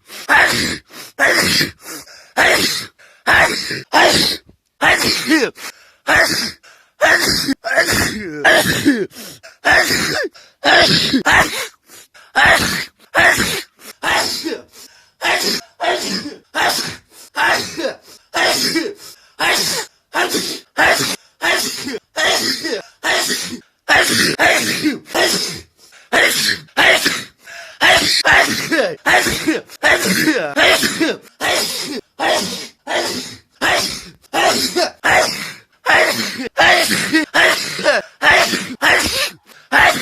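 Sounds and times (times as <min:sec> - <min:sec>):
person sneezing: 0:00.2 - 0:11.8, 0:12.4 - 0:40.0.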